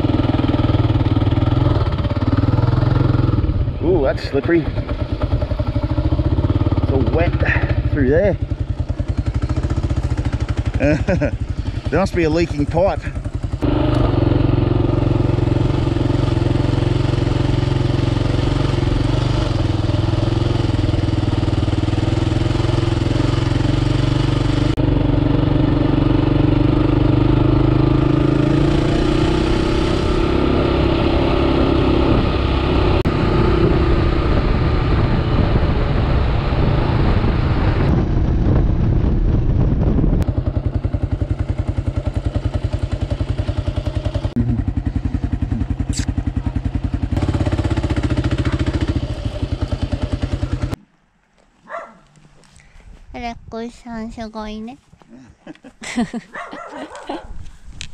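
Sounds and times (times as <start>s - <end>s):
motorcycle engine running: 0.0s - 50.8s.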